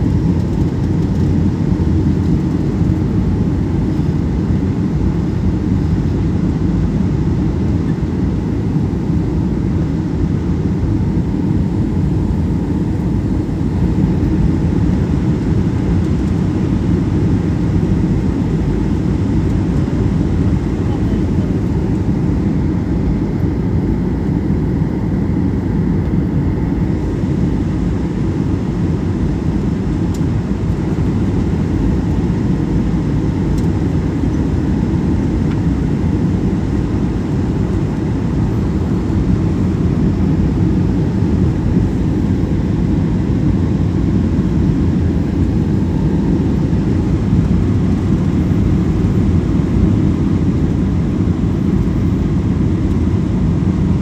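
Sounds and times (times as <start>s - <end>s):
airliner low rumble: 0.0s - 54.0s.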